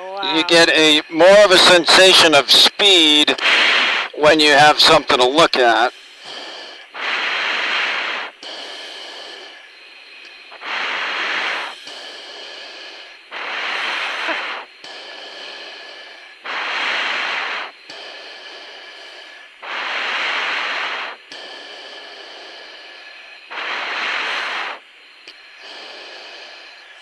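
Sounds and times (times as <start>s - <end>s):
hissing breaths through oxygen mask: 0.0s - 27.0s
steady cockpit hum: 0.0s - 27.0s.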